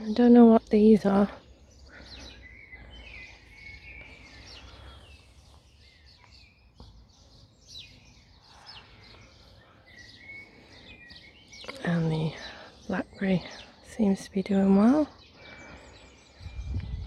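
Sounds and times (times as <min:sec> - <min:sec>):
songbirds chirping and warbling: 0:00.0 - 0:17.0.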